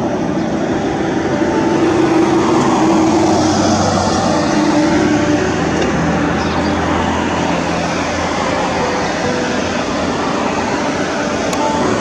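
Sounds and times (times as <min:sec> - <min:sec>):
city traffic rumble: 0:00.0 - 0:12.0
low engine hum: 0:00.0 - 0:12.0.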